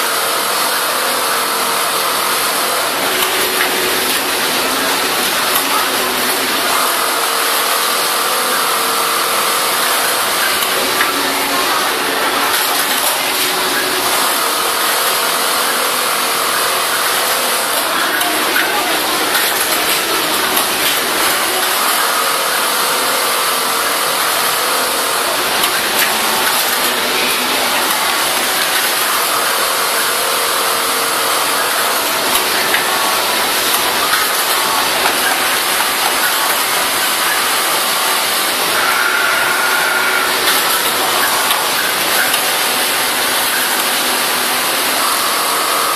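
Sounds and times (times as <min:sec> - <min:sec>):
industrial sewing machines running: 0:00.0 - 0:45.9.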